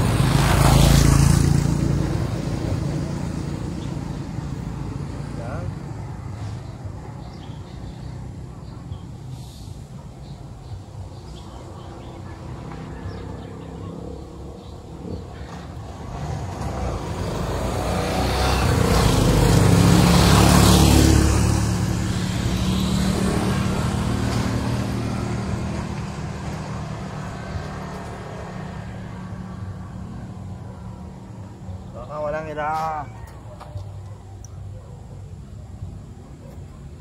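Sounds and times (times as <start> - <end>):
vehicle passing by: 0.0 - 34.0.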